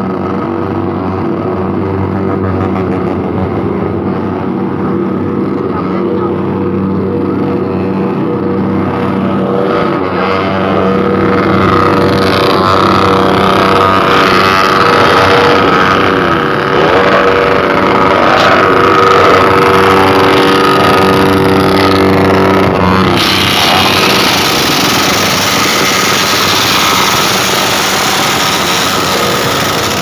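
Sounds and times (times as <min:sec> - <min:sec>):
motorcycle engine running loudly: 0:00.0 - 0:30.0.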